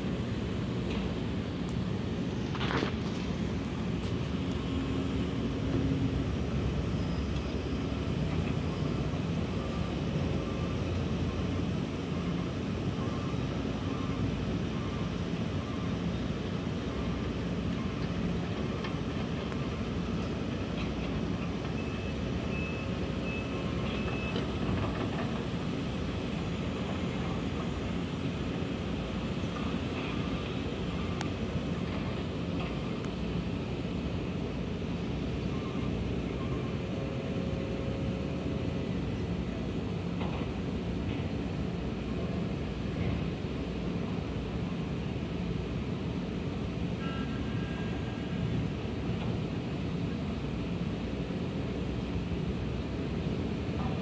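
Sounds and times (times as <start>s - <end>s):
high hydraulic whine: 0.0s - 54.0s
distant excavator engine rumble: 0.1s - 46.6s.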